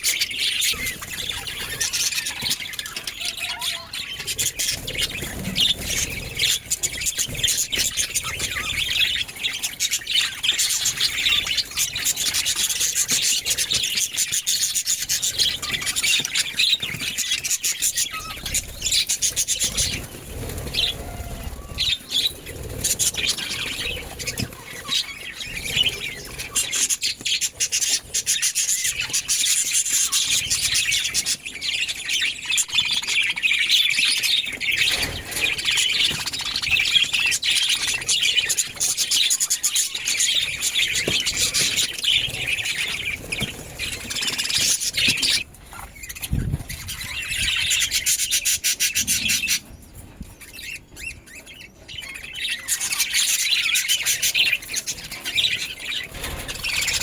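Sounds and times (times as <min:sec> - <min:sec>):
budgerigars chattering: 0:00.0 - 0:49.8, 0:50.4 - 0:57.0.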